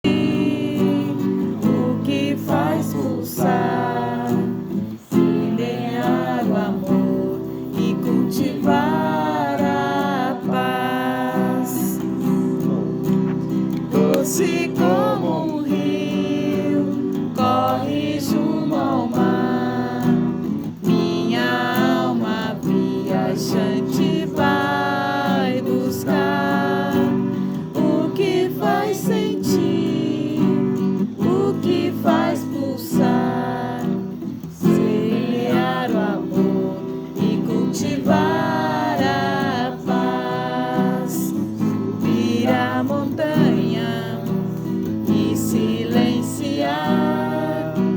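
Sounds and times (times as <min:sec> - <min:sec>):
person singing: 0:00.0 - 0:47.9
strummed acoustic guitar: 0:00.0 - 0:47.9.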